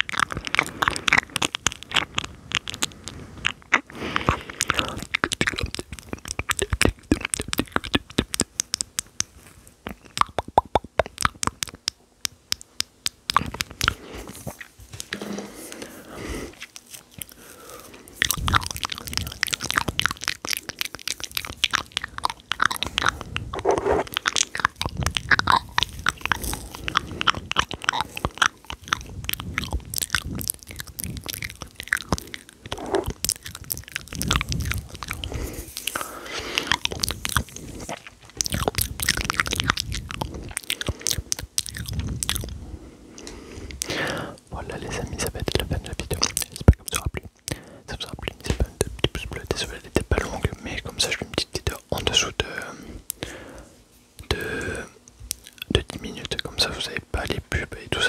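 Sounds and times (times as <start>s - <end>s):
wet mouth clicks and smacks: 0.0s - 42.6s, 43.2s - 53.4s, 54.2s - 58.0s.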